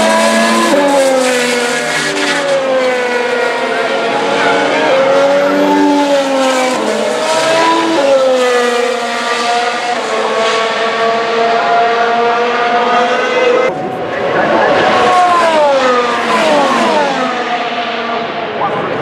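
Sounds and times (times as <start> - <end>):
racing cars passing at high revs: 0.0 - 19.0.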